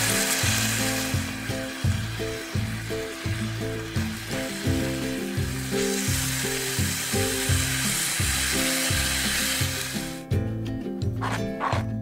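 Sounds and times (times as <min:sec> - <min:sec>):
food sizzling in a pan: 0:00.0 - 0:10.3
soft background music: 0:00.0 - 0:12.0.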